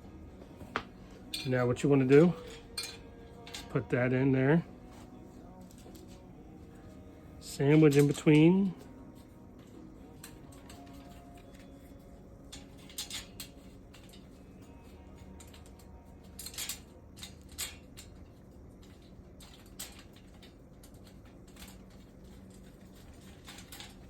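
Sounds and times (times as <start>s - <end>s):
steady low hum: 0.0s - 24.0s
tool rack parts clinking: 1.2s - 4.7s, 6.8s - 8.9s, 9.6s - 24.0s.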